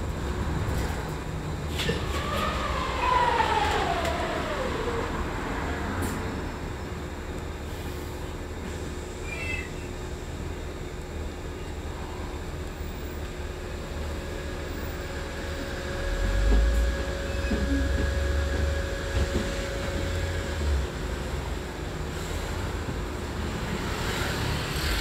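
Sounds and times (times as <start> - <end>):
bus cabin rumble: 0.0 - 10.7, 14.4 - 23.9.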